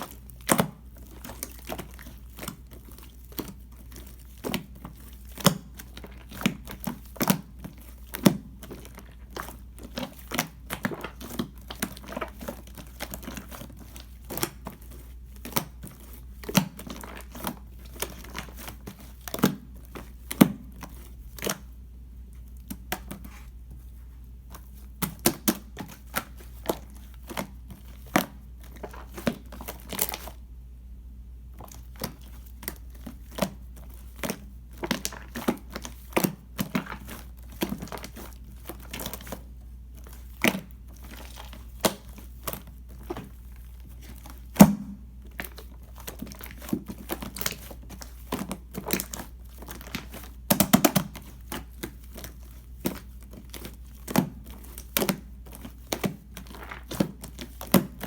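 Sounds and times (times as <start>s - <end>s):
hands squishing slime: 0.0s - 30.6s, 31.4s - 58.0s
low steady hum: 0.0s - 58.0s.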